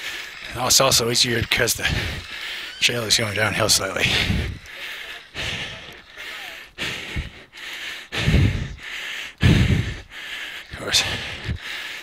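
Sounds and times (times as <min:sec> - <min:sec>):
runner breathing hard: 0:00.0 - 0:12.0.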